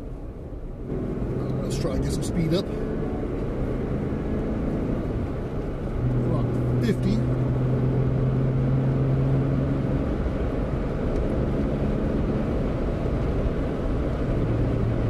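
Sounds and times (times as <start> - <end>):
engine hum: 0.0 - 15.0
wind and road noise in car: 0.0 - 15.0.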